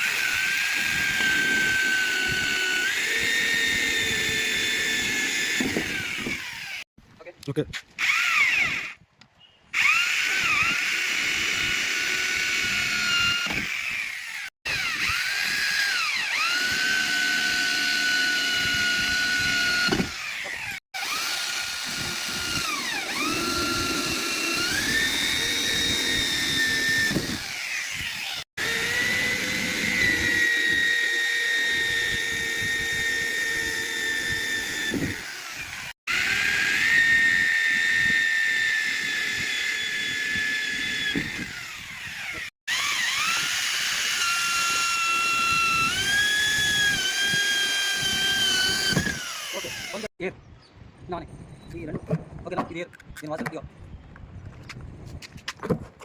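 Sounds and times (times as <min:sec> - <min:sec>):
electric power drill whining: 0:00.0 - 0:06.9, 0:08.0 - 0:09.0, 0:09.7 - 0:50.1.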